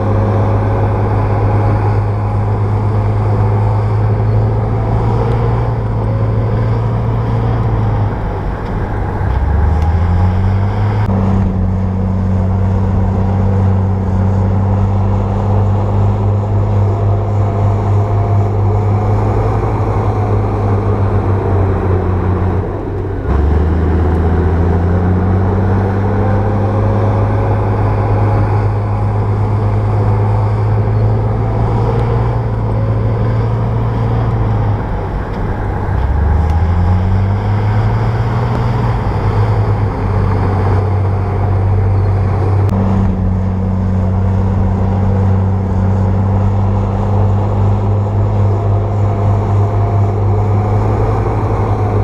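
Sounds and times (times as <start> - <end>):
bulldozer diesel engine revving: 0.0 - 52.0.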